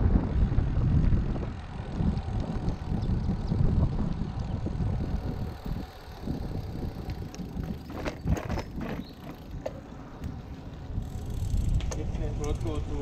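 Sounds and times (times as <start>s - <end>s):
tyre and road noise: 0.0s - 13.0s
wind buffeting microphone: 0.0s - 13.0s.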